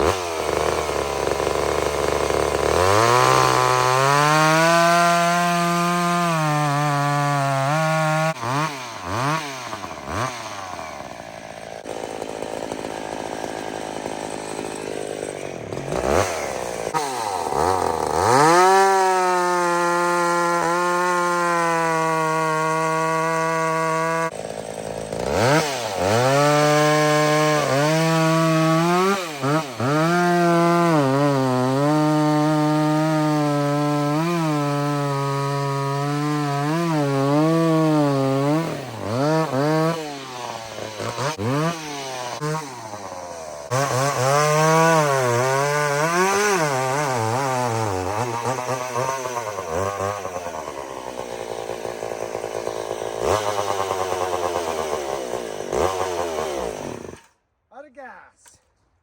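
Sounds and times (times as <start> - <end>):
chainsaw cutting wood: 0.0 - 57.5.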